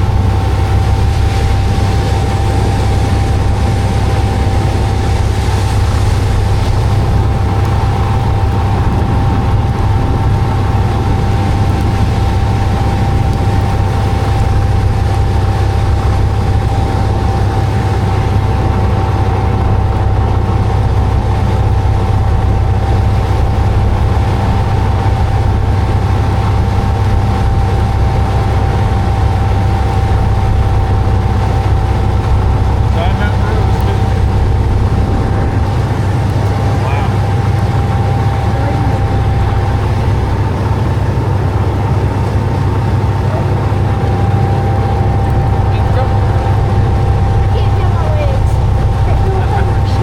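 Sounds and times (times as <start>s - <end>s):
engine droning with steady tone: 0.0s - 50.0s.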